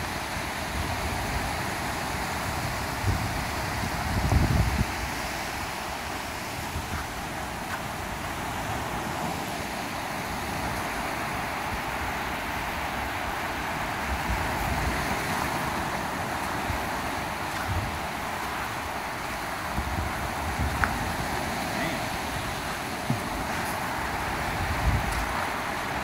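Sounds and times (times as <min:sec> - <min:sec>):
surf washing on a beach: 0:00.0 - 0:26.0
wind rumbling on microphone: 0:00.0 - 0:26.0.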